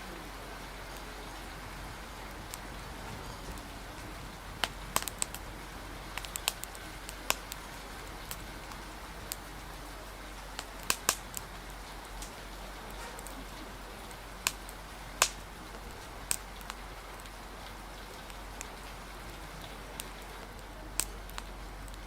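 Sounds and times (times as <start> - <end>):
steady hiss of rain: 0.0 - 22.0
wood fire crackling: 0.0 - 22.0.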